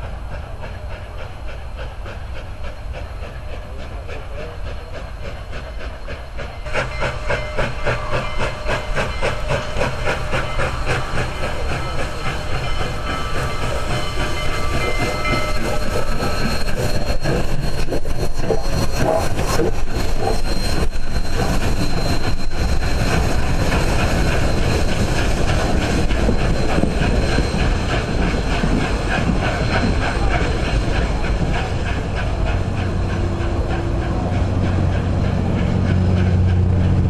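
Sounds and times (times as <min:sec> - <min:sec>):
rail rumble: 0:00.0 - 0:37.0
steam hiss: 0:00.0 - 0:37.0
steam locomotive passing: 0:00.0 - 0:37.0.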